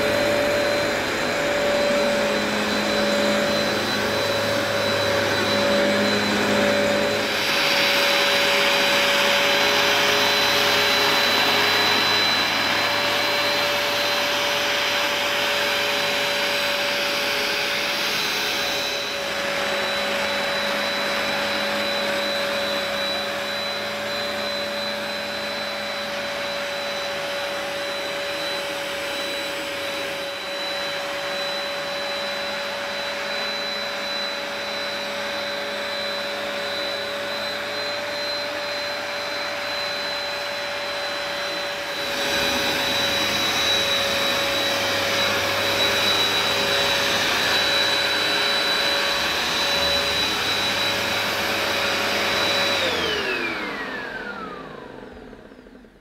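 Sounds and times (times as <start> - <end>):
carpet washer whining and sucking: 0.0 - 56.0.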